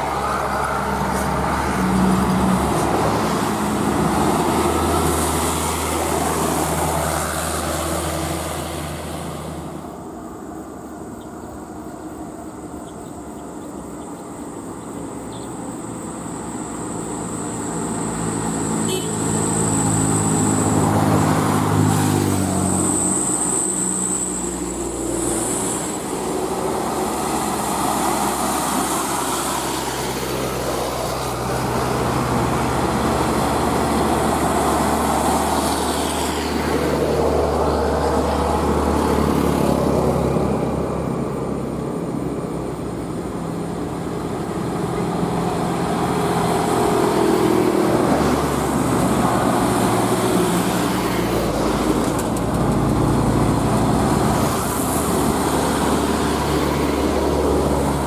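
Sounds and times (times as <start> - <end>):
road traffic noise: 0.0 - 58.0
truck diesel engine labouring: 0.0 - 58.0.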